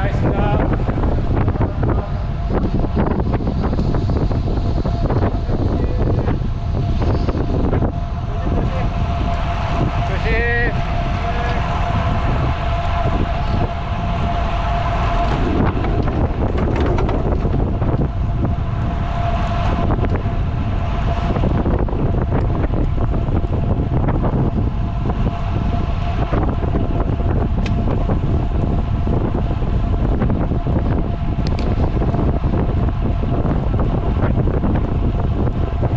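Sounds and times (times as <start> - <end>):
thin steady whine: 0.0 - 35.9
wind buffeting microphone: 0.0 - 35.9.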